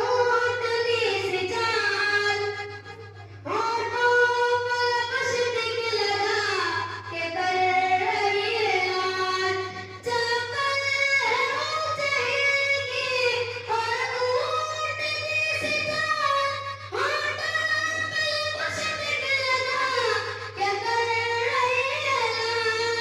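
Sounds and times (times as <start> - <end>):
child singing: 3.5 - 23.0.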